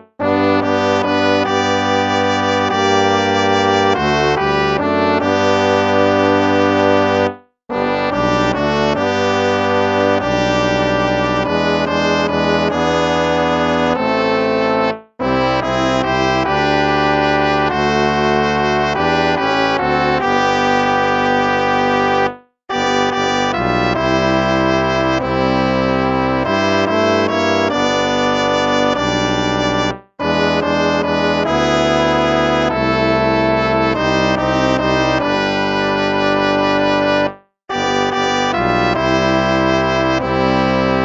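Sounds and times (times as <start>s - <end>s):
instrumental hymn music: 0.0s - 41.0s.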